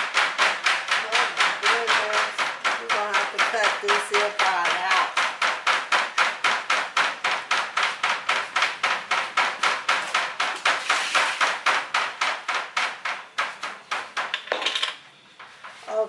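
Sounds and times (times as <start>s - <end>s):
rapid sharp knocks: 0.0s - 14.8s.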